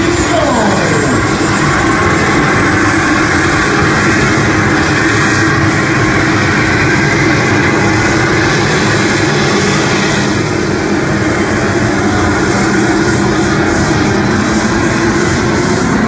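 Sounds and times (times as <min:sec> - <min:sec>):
engine roaring at full throttle: 0:00.0 - 0:16.0.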